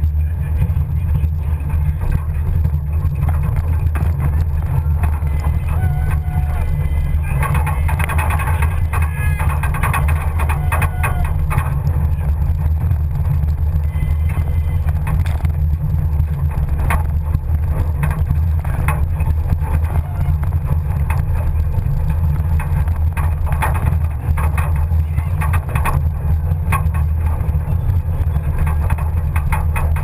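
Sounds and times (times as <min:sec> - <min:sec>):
body clunks and rattles: 0:00.0 - 0:30.0
truck engine drone: 0:00.0 - 0:30.0.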